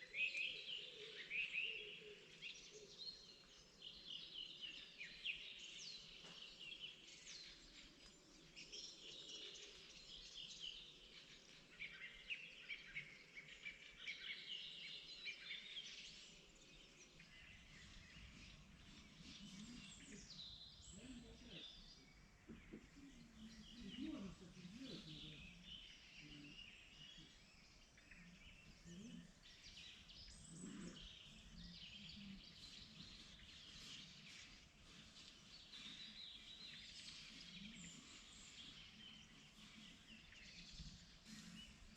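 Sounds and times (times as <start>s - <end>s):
songbirds singing and chirping: 0.0s - 41.9s.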